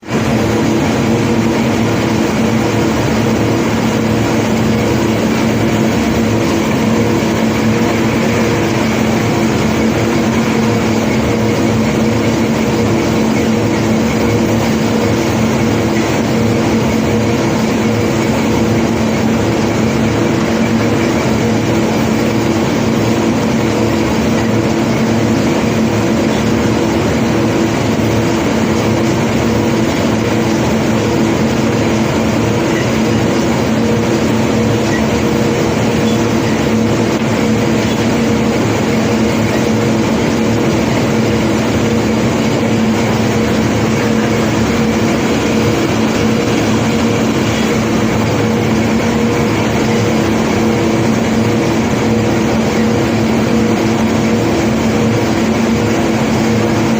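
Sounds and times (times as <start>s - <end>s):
diesel machinery running: 0.0s - 56.9s.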